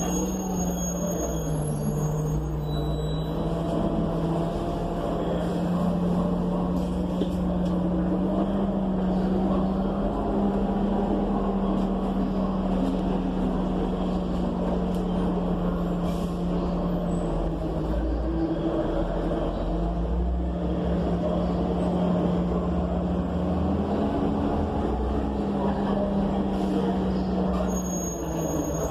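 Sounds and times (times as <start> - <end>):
bus engine hum inside cabin: 0.0 - 28.9.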